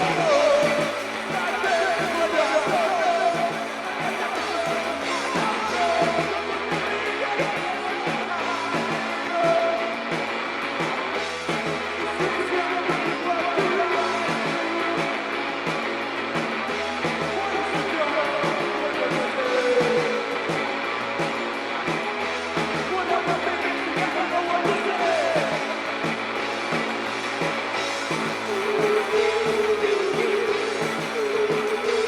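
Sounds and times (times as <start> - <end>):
band music with guitar and drums: 0.0 - 32.0.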